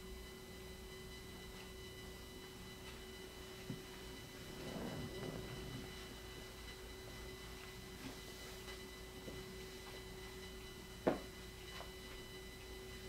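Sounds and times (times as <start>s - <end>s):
faint hum of pure tones: 0.0s - 13.0s.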